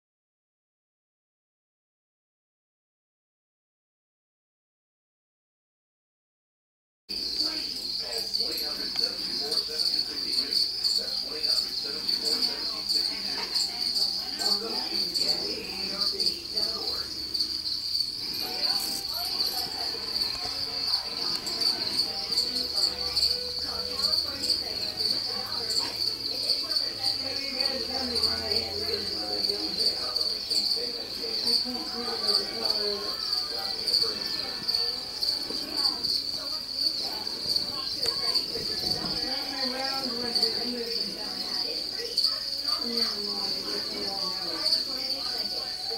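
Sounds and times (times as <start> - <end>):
crickets chirping: 7.1 - 45.9.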